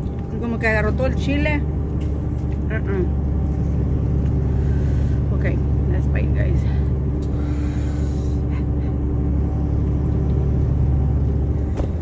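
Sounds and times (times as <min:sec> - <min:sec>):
constant hum: 0:00.0 - 0:12.0
diesel truck engine rumble: 0:00.0 - 0:12.0.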